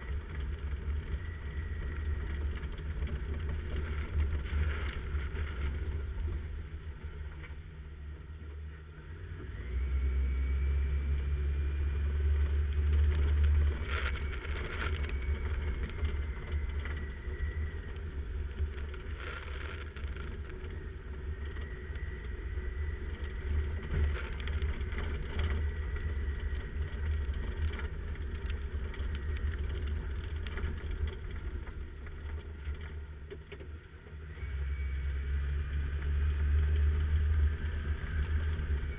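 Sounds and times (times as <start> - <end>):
engine low rumble: 0.0 - 38.9.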